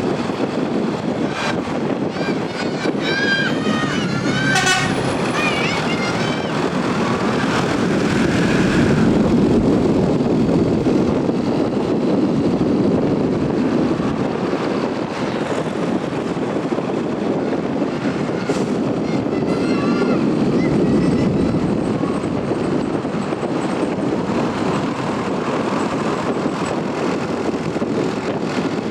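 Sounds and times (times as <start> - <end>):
diesel bus engine droning: 0.0 - 28.9.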